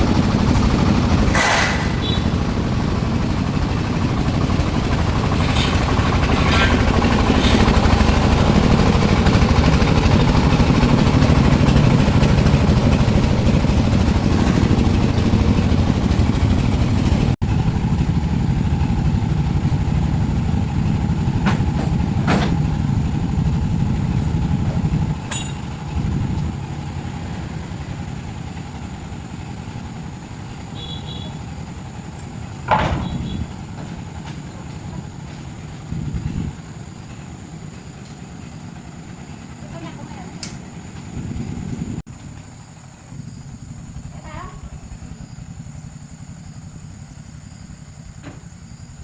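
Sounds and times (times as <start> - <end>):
vehicle engine rumbling: 0.0 - 49.0.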